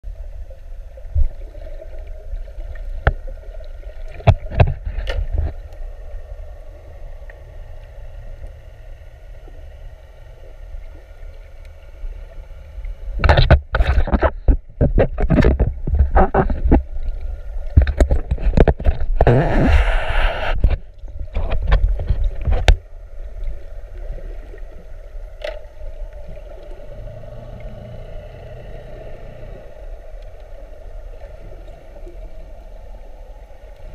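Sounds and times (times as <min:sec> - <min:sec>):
muffled underwater hum: 0:00.1 - 0:33.9
water splashing and sloshing: 0:00.1 - 0:33.9.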